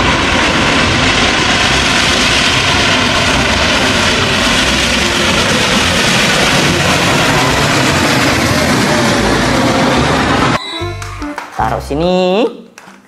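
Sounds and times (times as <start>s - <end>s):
steam locomotive steam rushing: 0.0s - 10.6s.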